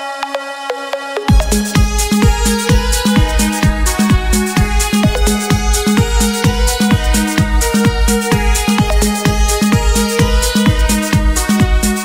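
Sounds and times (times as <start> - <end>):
kick drum beat: 1.2 - 12.0.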